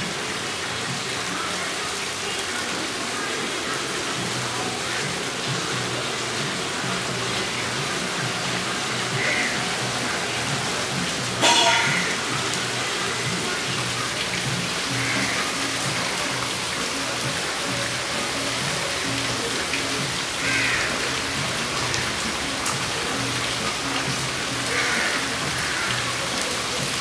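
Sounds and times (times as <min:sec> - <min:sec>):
rain on foliage: 0:00.0 - 0:27.0.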